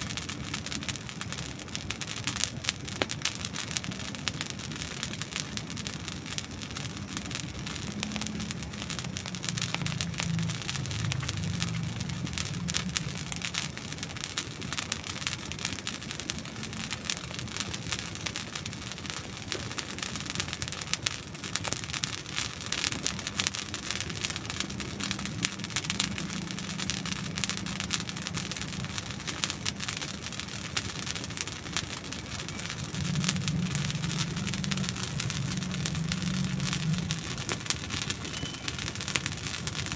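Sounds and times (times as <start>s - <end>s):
campfire crackling: 0.0s - 39.9s
low rumble: 5.3s - 19.1s, 21.6s - 39.9s.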